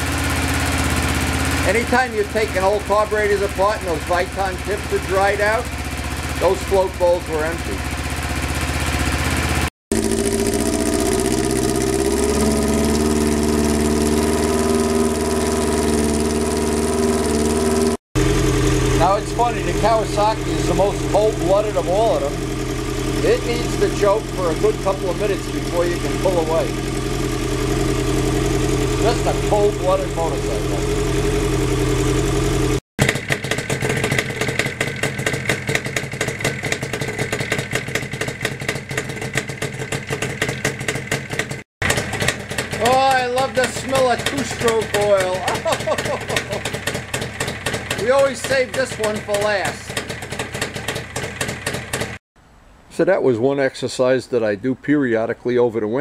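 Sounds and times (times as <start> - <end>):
motorcycle engine idling: 0.0 - 52.2
two-stroke engine crackling idle: 0.0 - 52.2.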